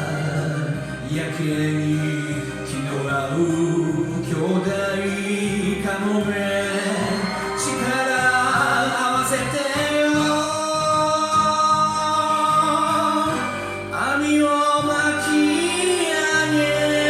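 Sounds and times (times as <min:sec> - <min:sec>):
instrumental karaoke backing track: 0:00.0 - 0:17.0.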